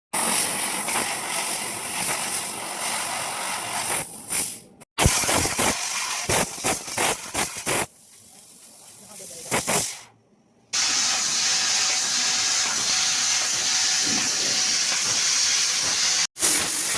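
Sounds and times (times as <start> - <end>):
laser cutter gas hissing: 0.2 - 10.1, 10.8 - 16.9.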